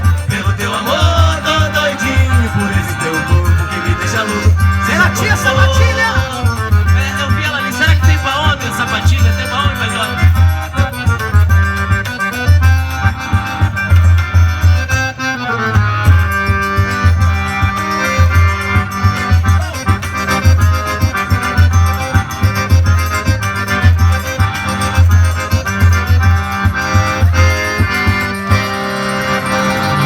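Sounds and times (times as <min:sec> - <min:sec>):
accordion: 0:00.0 - 0:30.0
bass and drum beat: 0:00.0 - 0:30.0.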